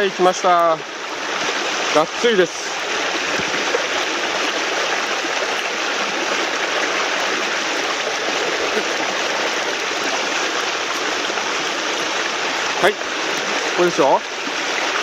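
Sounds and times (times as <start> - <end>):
stream rushing through riffles: 0.0 - 15.0.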